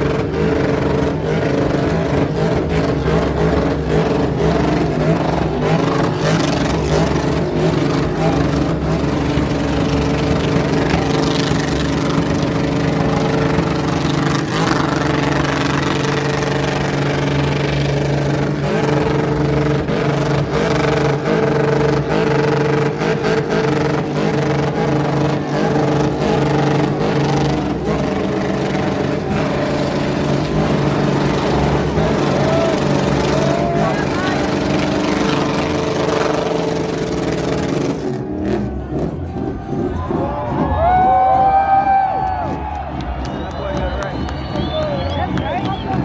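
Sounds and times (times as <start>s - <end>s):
car engine at high revs: 0.0s - 46.0s.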